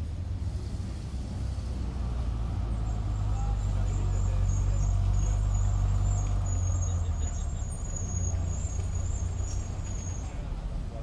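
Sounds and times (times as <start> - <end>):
half-track engine driving past: 0.0 - 10.3.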